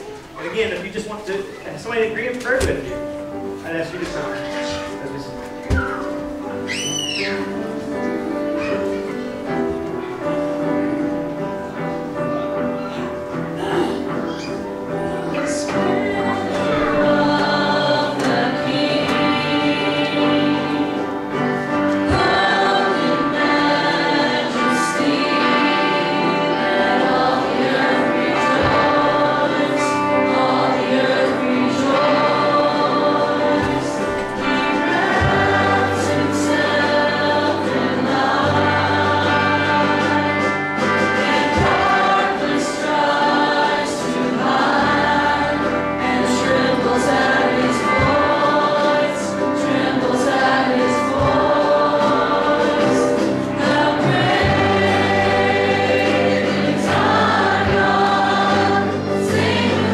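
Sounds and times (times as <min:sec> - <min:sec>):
worship band singing a hymn: 0:00.0 - 0:59.9.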